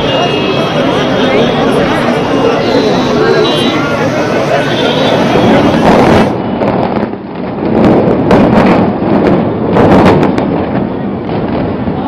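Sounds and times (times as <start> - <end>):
building collapse rumble: 0.0 - 12.0.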